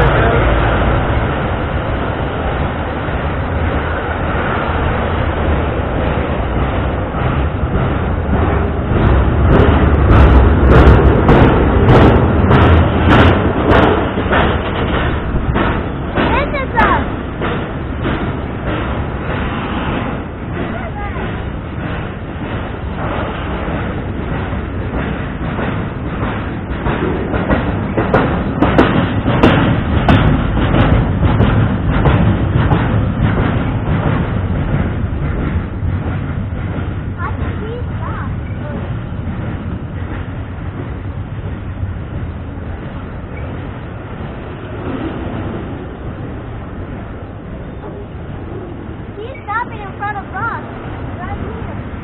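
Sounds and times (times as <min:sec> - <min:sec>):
train wheels on rails: 0:00.0 - 0:52.0.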